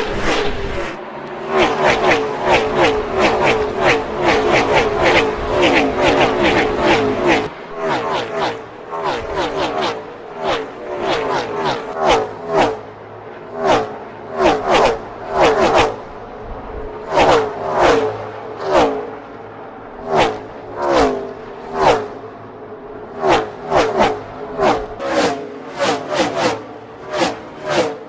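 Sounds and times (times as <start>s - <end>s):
race car engines passing by: 0.0s - 28.0s.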